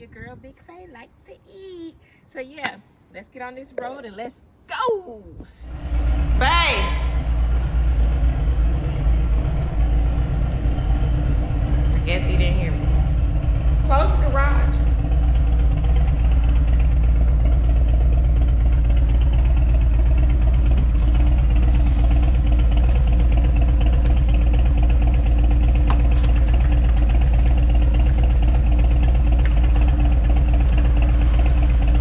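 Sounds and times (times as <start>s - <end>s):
motorcycle engine idling: 5.6s - 32.0s.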